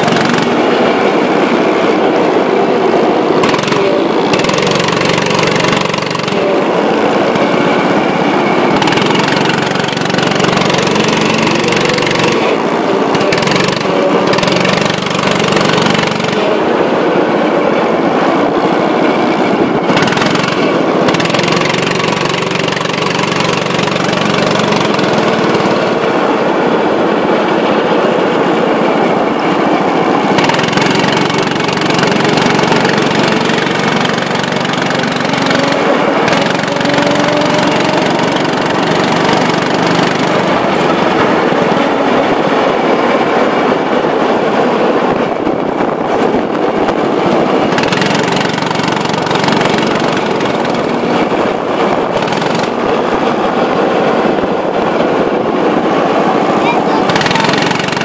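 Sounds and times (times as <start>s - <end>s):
go-kart engines buzzing: 0.0s - 58.0s.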